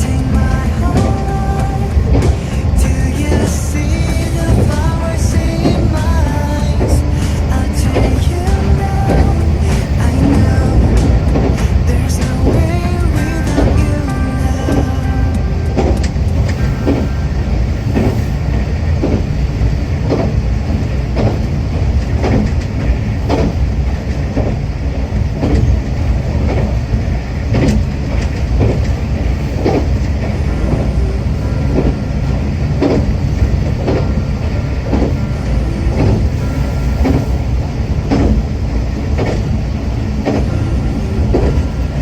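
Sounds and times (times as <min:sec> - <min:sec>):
railcar rumbling along track: 0:00.0 - 0:42.0
wheels clicking over rail joints: 0:00.0 - 0:42.0.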